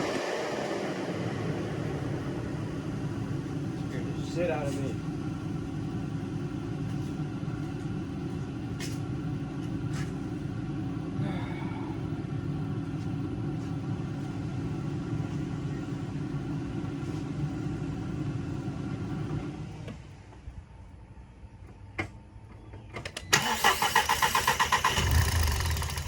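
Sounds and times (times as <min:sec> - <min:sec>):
car engine humming: 0:00.0 - 0:22.4.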